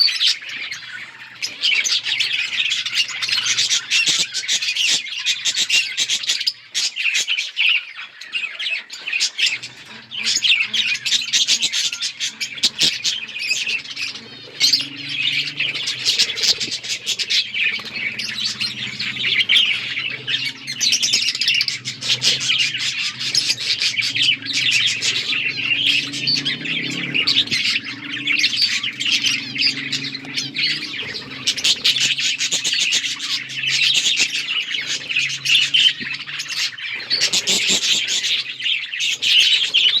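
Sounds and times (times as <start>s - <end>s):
budgerigars chirping and chattering: 0.0s - 40.0s.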